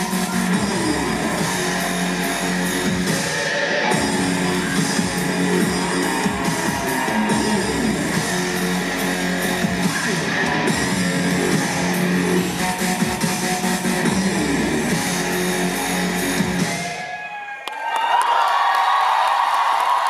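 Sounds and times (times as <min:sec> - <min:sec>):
distorted electric guitar: 0:00.0 - 0:17.0
heavy metal rock music: 0:00.0 - 0:17.0.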